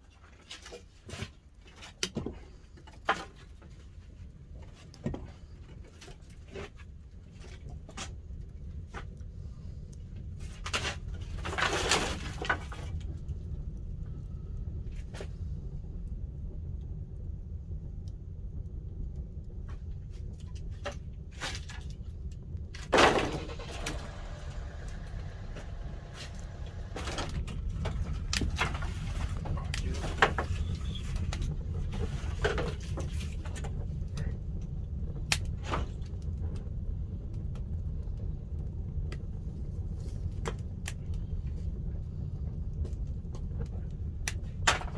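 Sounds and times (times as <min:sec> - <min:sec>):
fire crackles and pops: 0:00.0 - 0:44.9
fire rumbling in kiln: 0:00.0 - 0:44.9
fire rushing surges: 0:07.0 - 0:44.9.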